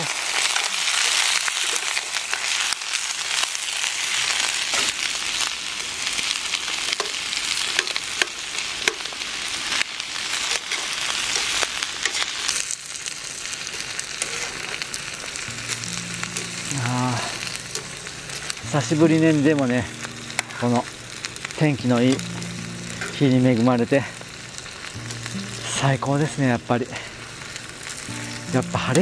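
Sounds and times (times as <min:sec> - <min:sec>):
onions sizzling in oil: 0:00.0 - 0:29.0
spattering crackles: 0:00.0 - 0:29.0.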